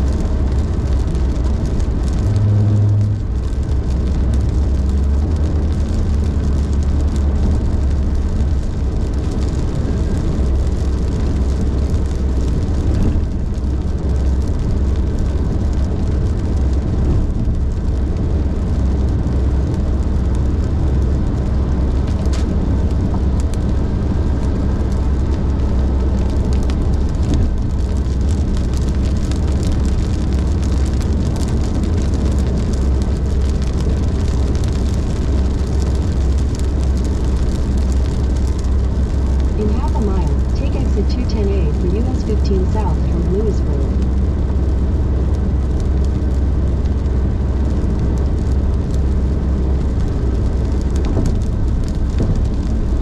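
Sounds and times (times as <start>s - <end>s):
car road rumble: 0.0s - 53.0s
rain and tyre spray hiss: 0.0s - 53.0s.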